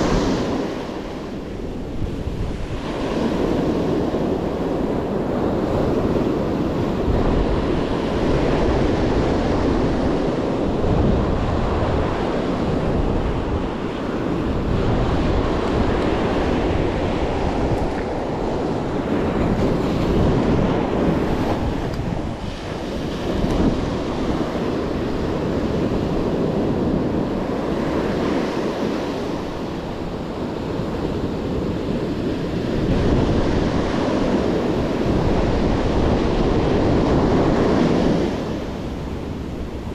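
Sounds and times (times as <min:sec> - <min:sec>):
surf breaking on sand: 0:00.0 - 0:39.9
wind buffeting microphone: 0:00.0 - 0:39.9.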